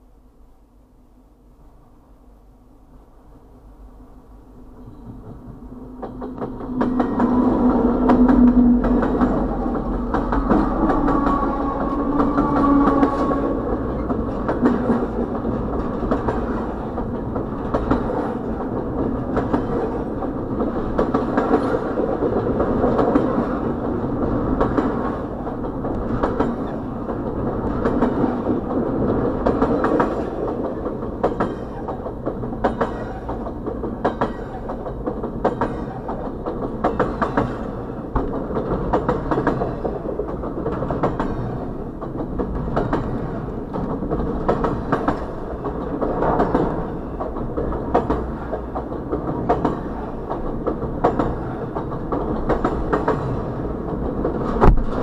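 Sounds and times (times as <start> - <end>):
locomotive engine hum: 2.8 - 54.8
freight cars rumbling: 4.6 - 55.0
train wheels clicking over rail joints: 4.8 - 55.0.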